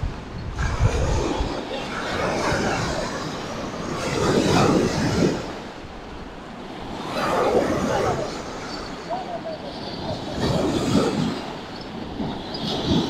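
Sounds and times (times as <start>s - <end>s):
waves washing on shore: 0.0s - 13.0s
wind rumbling on microphone: 0.0s - 13.0s.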